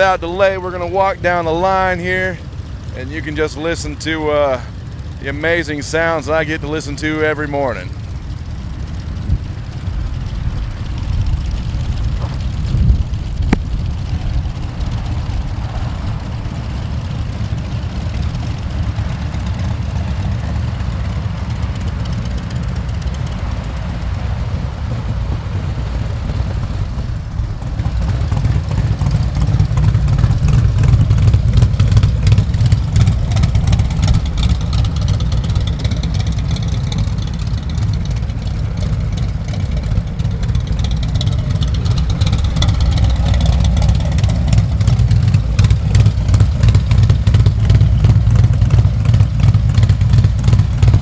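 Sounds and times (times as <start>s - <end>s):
motorcycles idling: 0.0s - 51.0s.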